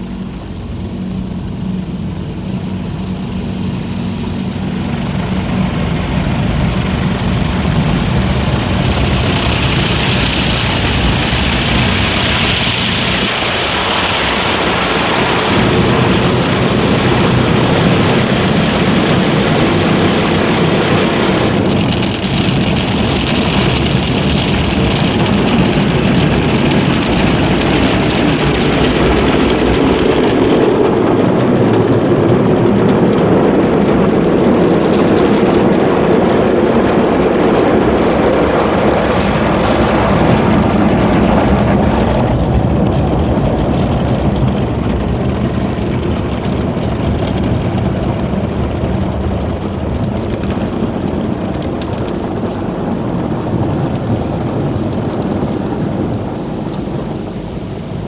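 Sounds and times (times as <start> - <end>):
water jets drumming on car: 0.0 - 58.0.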